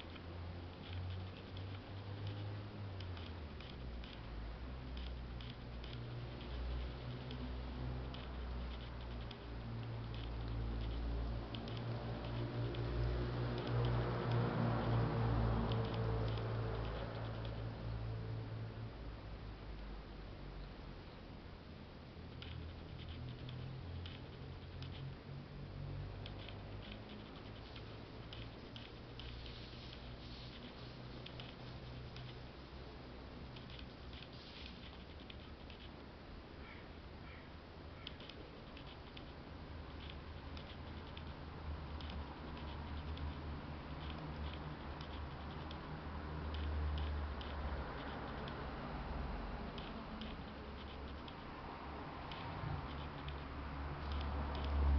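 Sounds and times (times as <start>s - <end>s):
faint low rumble: 0.0s - 54.9s
low background hum: 0.0s - 54.9s.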